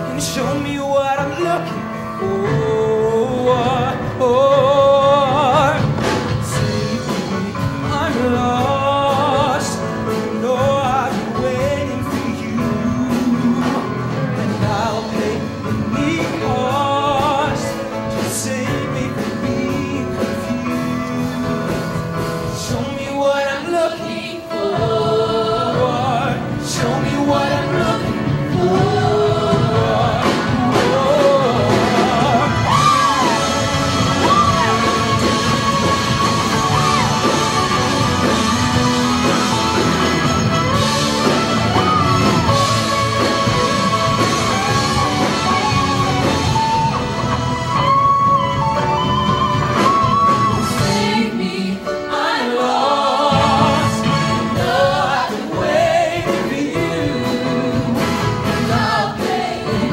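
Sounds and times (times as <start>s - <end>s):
band accompaniment: 0.0s - 59.9s
choir singing: 2.2s - 47.8s, 49.0s - 59.9s.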